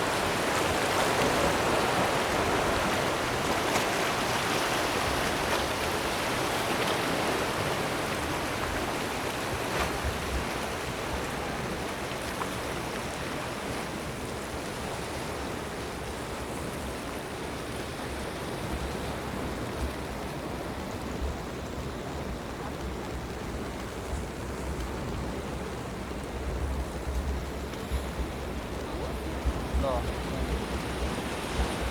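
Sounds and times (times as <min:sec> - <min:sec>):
sea waves washing against rocks: 0:00.0 - 0:31.9
wind rumble on microphone: 0:00.0 - 0:31.9.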